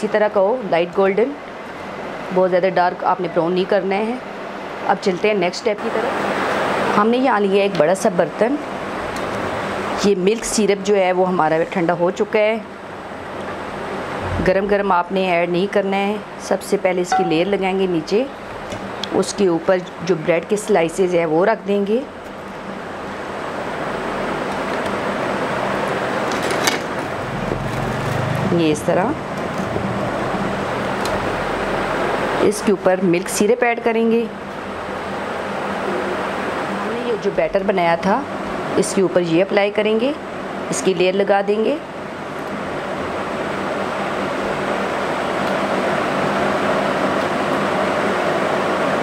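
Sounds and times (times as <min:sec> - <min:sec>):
steady background hiss: 0:00.0 - 0:27.3, 0:28.6 - 0:49.0.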